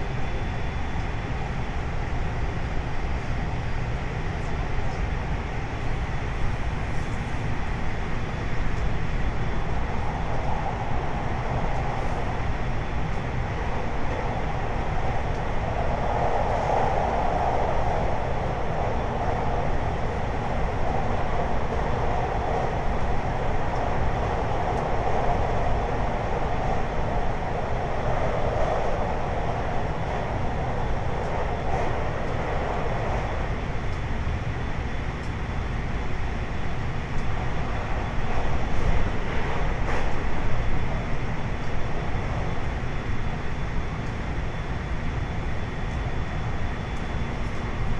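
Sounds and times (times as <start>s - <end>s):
faint steady whine: 0.0s - 47.9s
train rolling rumble: 0.0s - 47.9s.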